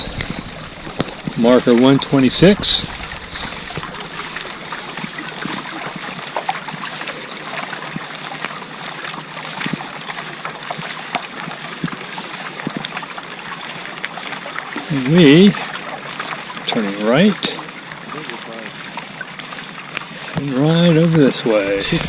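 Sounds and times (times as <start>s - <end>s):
steady rain: 0.0s - 22.0s
water trickling and splashing: 0.0s - 22.0s.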